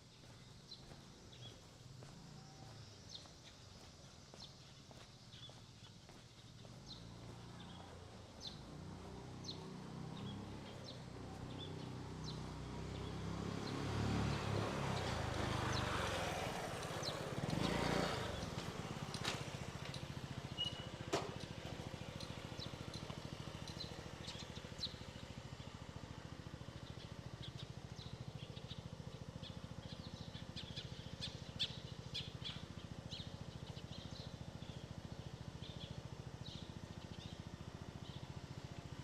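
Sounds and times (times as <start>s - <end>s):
birds chirping: 0.0s - 38.8s
vehicle passing: 6.6s - 39.0s.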